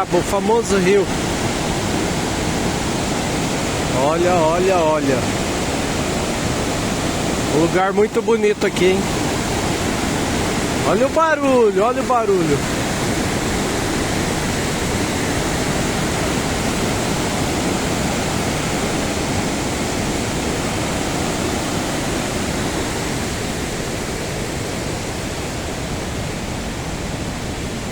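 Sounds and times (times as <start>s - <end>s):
roar of river rapids: 0.0s - 27.9s.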